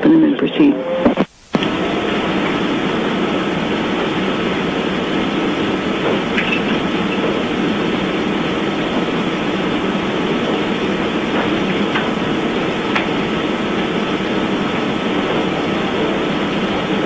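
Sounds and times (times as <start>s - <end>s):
faint hum: 0.0s - 17.0s
steady rushing noise: 1.0s - 17.0s.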